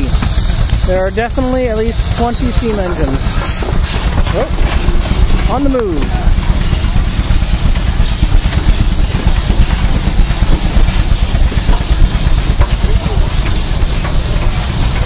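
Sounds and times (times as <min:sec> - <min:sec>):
steam engine rumble: 0:00.0 - 0:15.0.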